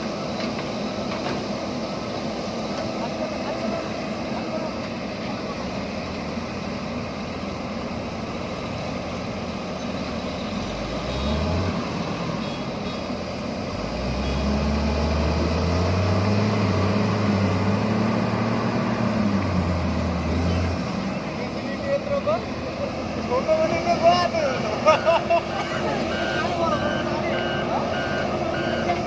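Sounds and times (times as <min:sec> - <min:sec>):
diesel engines under load: 0:00.0 - 0:29.0.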